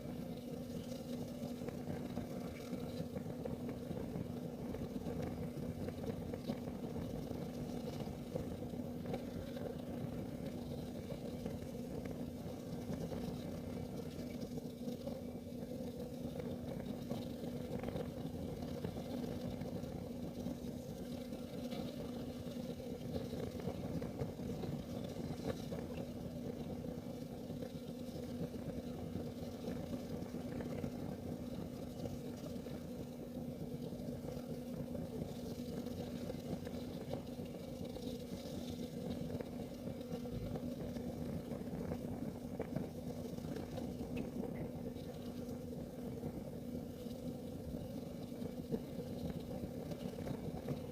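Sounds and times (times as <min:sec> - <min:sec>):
faint hum: 0:00.0 - 0:50.9
heater burning low rumble: 0:00.0 - 0:50.9.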